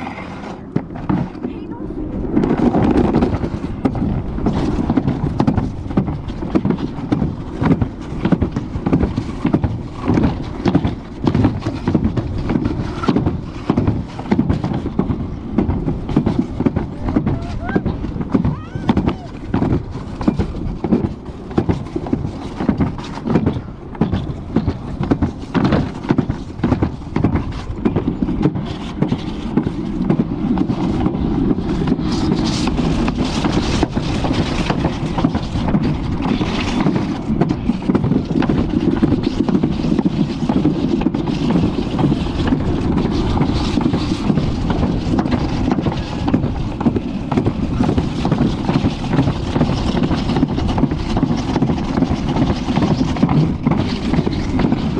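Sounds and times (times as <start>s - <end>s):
sled clattering knocks: 0.0s - 54.9s
sled rumbling down track: 0.0s - 54.9s
wind rushing on microphone: 0.0s - 54.9s.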